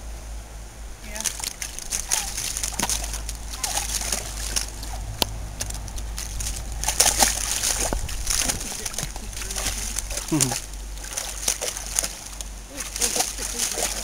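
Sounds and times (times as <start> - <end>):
dog splashing through stream: 1.0 - 14.0.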